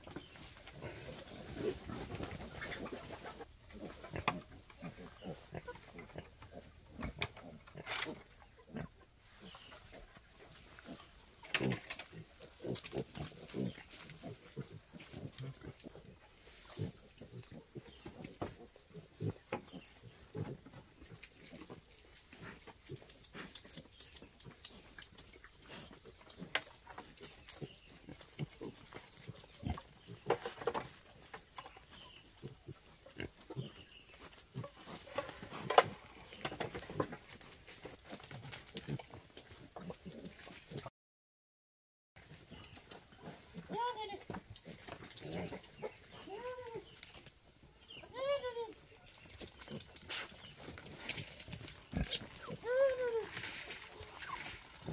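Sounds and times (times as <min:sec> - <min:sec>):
rustling: 0:00.0 - 0:40.8, 0:49.0 - 0:54.9.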